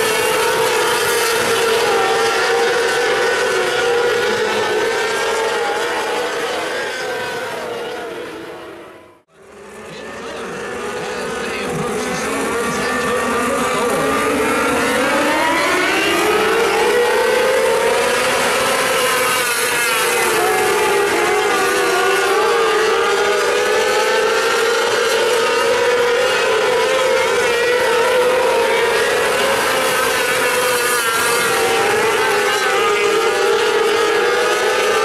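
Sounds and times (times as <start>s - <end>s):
racing car engines: 0.0s - 35.0s.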